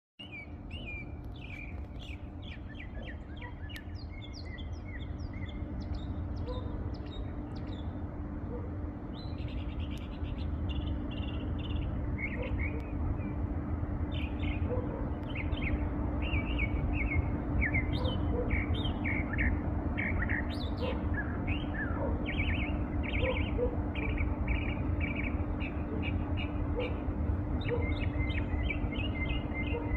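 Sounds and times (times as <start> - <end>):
low rumble with faint hum: 0.2 - 29.9
small birds chirping: 0.2 - 29.9.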